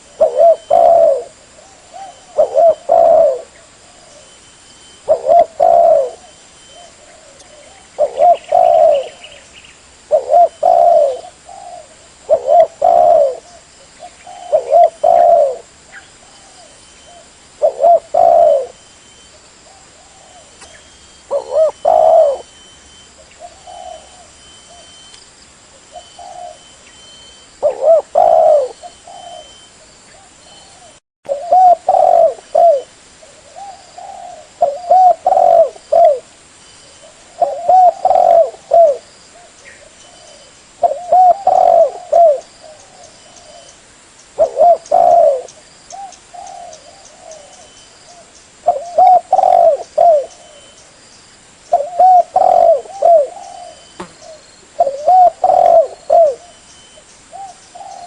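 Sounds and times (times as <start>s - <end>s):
dove cooing: 0.0s - 9.4s, 10.1s - 18.9s, 19.6s - 25.1s, 25.8s - 36.3s, 36.9s - 43.8s, 44.4s - 50.9s, 51.7s - 58.0s.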